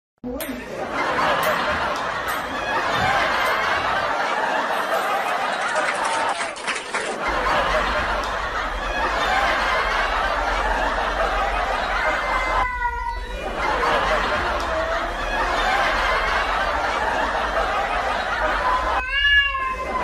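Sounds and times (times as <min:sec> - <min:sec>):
people laughing: 0:00.4 - 0:20.0.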